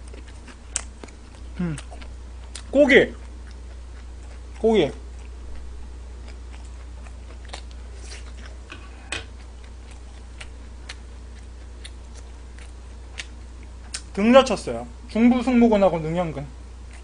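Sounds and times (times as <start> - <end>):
person chewing noodles: 0.0 - 14.1
steady low hum: 0.0 - 17.0.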